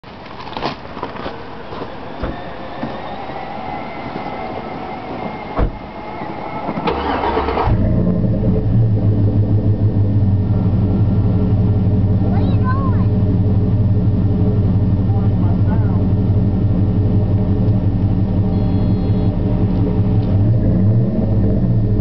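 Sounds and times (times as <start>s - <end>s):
car engine cranking and idling: 0.0s - 22.0s.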